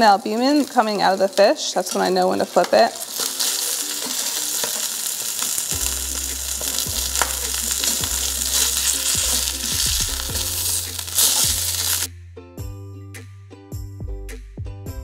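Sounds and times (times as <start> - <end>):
fish sizzling in oil: 0.0 - 12.1
quiet background music: 0.0 - 15.0.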